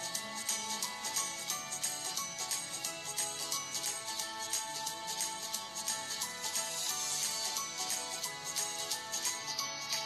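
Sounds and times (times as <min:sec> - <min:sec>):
background music with jingling: 0:00.0 - 0:10.0.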